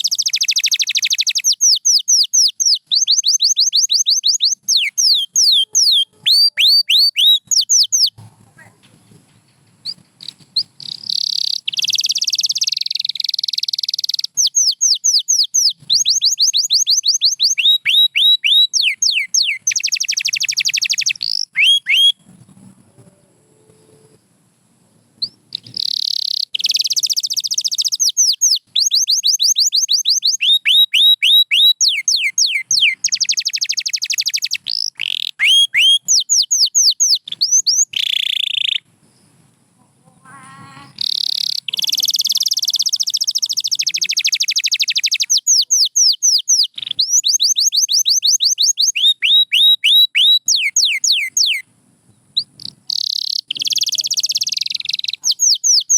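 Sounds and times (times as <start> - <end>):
canary singing: 0.0 - 9.2, 9.8 - 22.4, 25.2 - 38.9, 40.0 - 51.7, 52.4 - 55.9.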